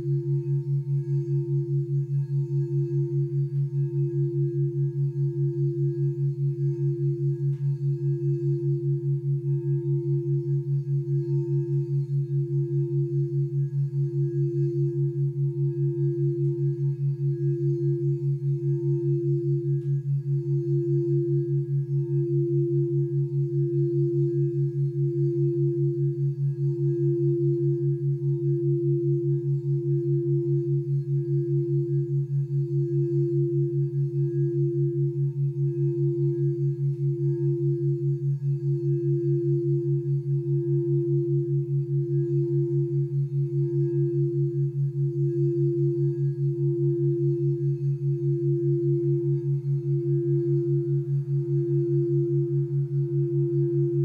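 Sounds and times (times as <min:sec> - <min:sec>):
low pulsing background tone: 0:00.0 - 0:54.0
singing bowl ringing: 0:00.0 - 0:54.0.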